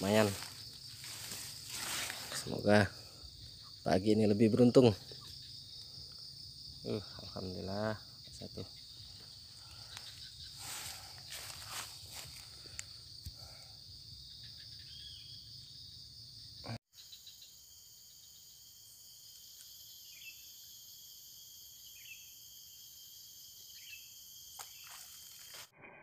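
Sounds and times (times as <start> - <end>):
insects droning: 0.0 - 25.7.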